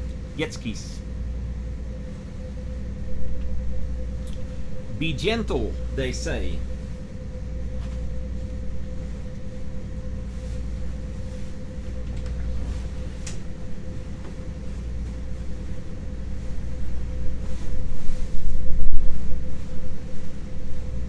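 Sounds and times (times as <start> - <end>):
boat engines running: 0.0 - 17.2.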